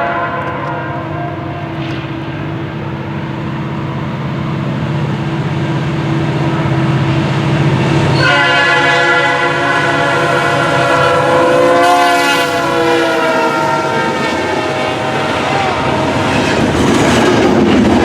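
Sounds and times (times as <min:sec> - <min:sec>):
train horn chord: 0:00.0 - 0:16.8
diesel locomotive engine drone: 0:00.0 - 0:18.0.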